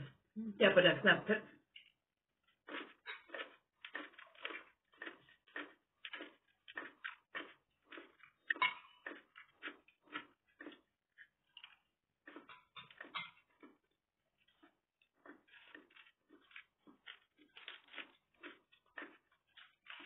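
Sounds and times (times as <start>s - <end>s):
chewing and mouth smacking: 1.8s - 20.0s.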